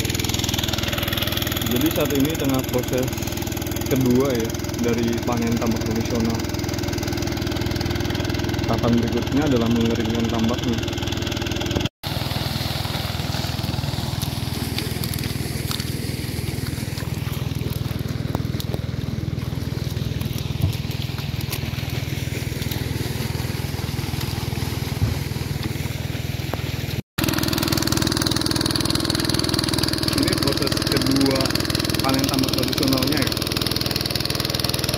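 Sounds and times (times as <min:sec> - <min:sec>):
small engine idling: 0:00.0 - 0:34.9.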